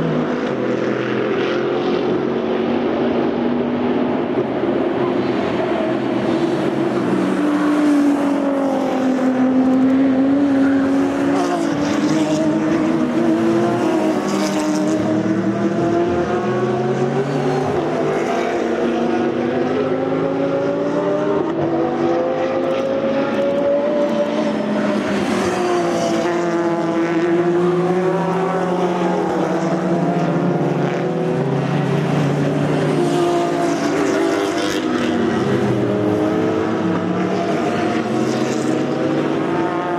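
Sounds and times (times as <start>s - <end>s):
racing car engines passing: 0.0s - 39.9s.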